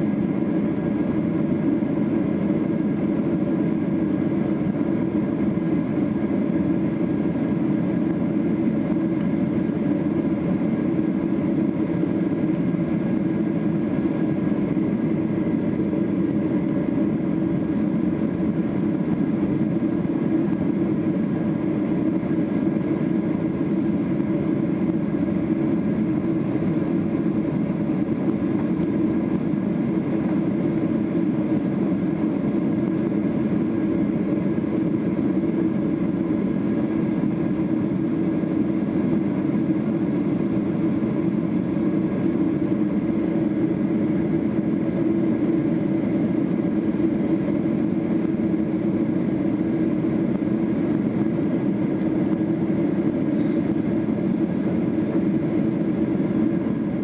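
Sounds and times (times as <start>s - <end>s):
jet engine and airflow drone: 0.0s - 57.0s.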